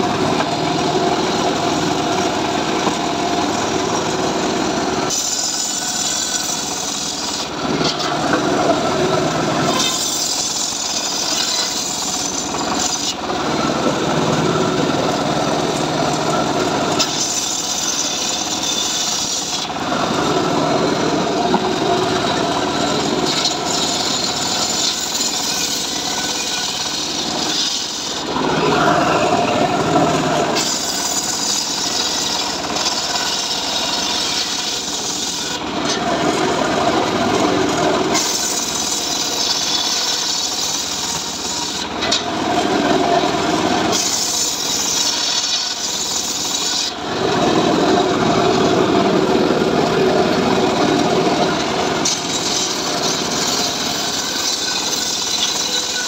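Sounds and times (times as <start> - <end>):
table saw cutting wood: 0.0 - 56.0.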